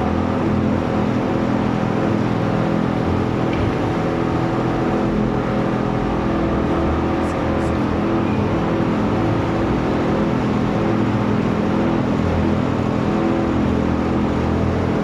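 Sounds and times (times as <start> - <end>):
shredding machine drone: 0.0 - 15.0.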